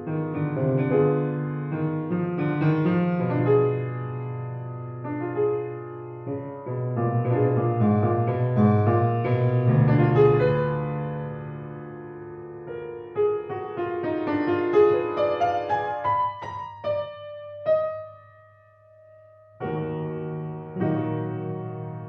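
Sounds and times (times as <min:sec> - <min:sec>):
slow classical piano: 0:00.0 - 0:22.0.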